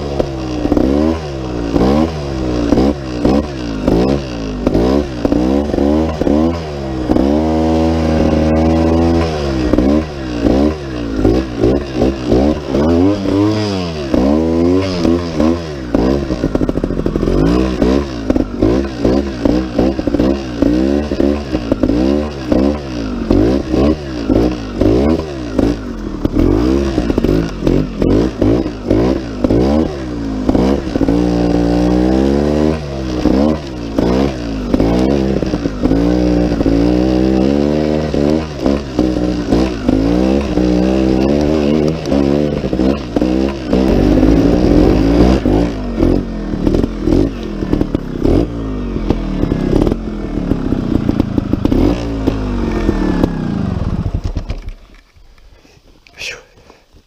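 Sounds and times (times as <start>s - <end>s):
motorcycle engine revving: 0.0s - 55.4s.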